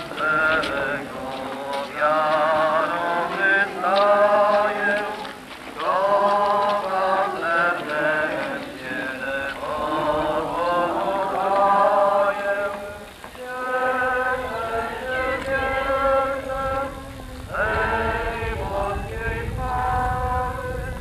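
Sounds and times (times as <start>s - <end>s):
slow sung chant: 0.0s - 21.0s.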